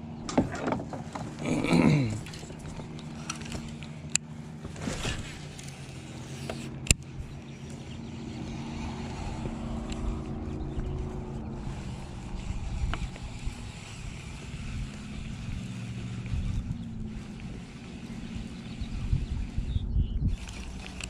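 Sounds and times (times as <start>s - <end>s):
boat motor running: 0.0s - 21.0s.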